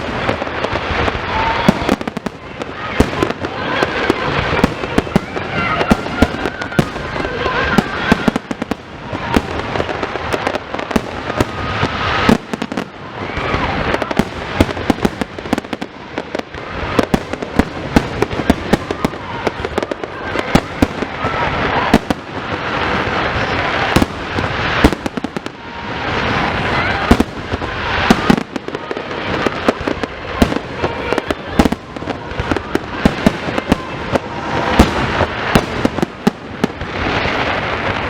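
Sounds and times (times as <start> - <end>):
fireworks bangs and crackling: 0.0 - 38.0.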